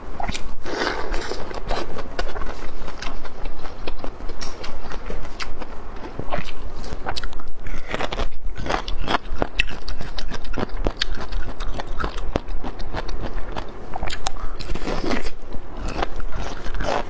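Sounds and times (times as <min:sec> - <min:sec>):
crisp biting and chewing: 0:00.2 - 0:17.0.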